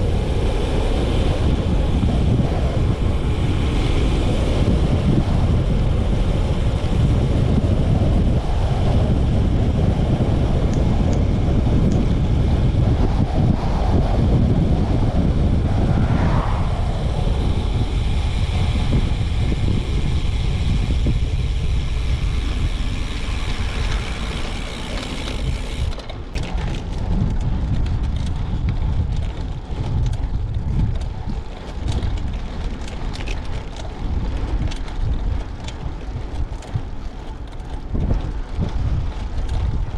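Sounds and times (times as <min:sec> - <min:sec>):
vehicle rumble: 0:00.0 - 0:39.9
wind buffeting microphone: 0:00.0 - 0:39.9.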